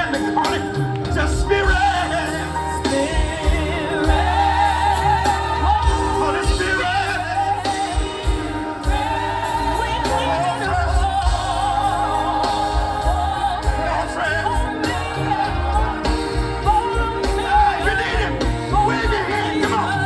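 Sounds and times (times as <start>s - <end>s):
gospel band with steady beat: 0.0s - 20.0s
person singing: 0.0s - 20.0s.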